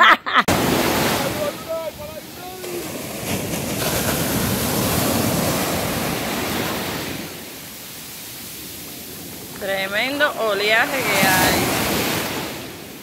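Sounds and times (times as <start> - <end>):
ocean waves breaking: 0.3 - 13.0.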